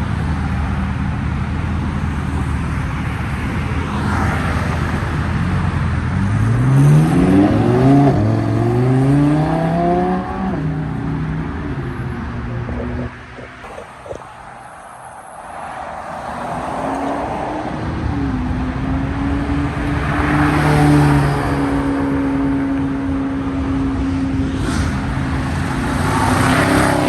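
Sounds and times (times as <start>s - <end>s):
car engine accelerating: 3.8s - 27.0s.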